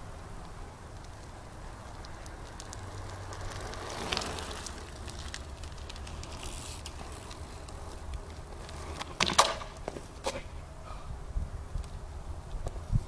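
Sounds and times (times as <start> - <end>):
bike tyre noise on pavement: 0.0 - 13.0.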